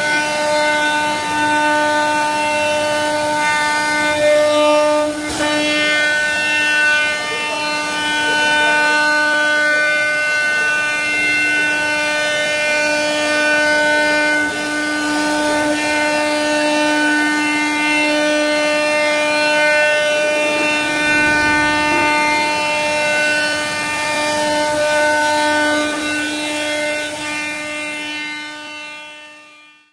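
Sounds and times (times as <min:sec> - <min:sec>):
router spindle whining: 0:00.0 - 0:29.6.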